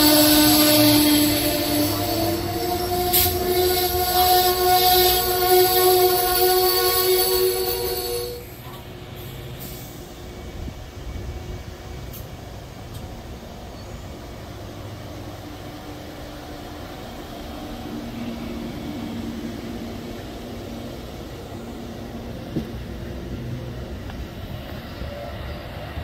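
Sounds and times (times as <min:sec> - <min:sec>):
train cars rumbling past: 0:00.0 - 0:26.0.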